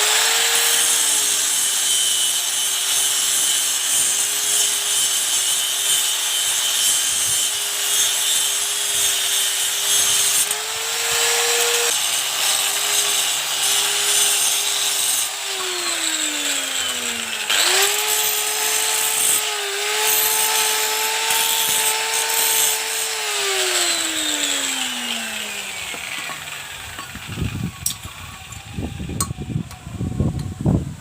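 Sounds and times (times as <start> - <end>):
power tool whining: 0.0 - 31.0.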